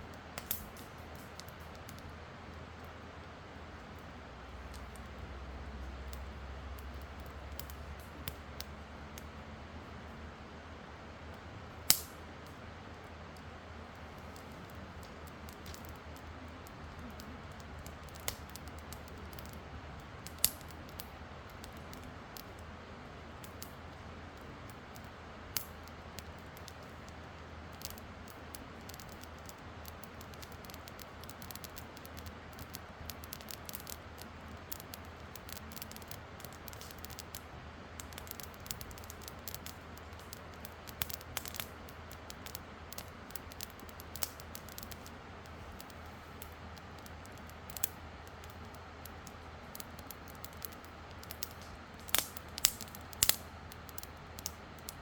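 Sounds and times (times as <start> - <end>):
campfire crackling and popping: 0.0 - 55.0
fire low hiss: 0.0 - 55.0.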